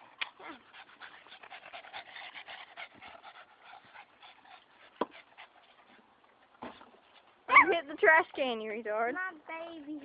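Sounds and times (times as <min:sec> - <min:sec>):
dog panting: 0:00.0 - 0:08.2.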